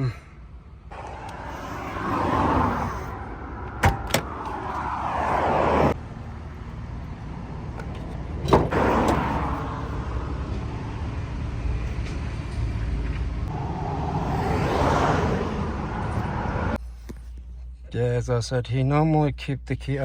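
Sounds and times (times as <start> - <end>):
road traffic passing: 0.0 - 16.9.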